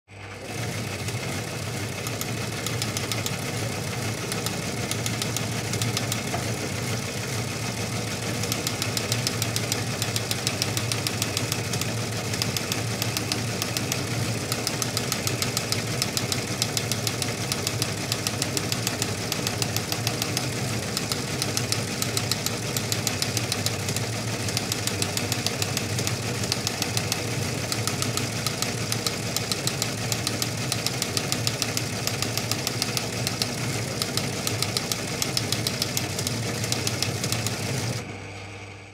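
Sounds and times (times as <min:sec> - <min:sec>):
teletype motor hum: 0:00.1 - 0:38.9
teletype printing clatter: 0:00.4 - 0:38.0.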